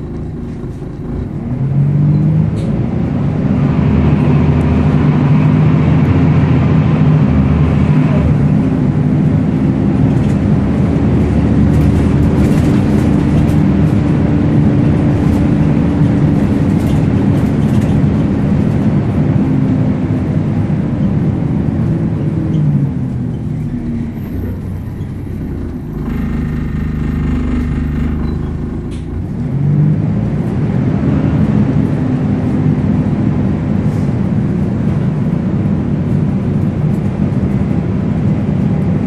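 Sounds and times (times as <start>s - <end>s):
diesel bus engine under load: 0.0s - 39.0s.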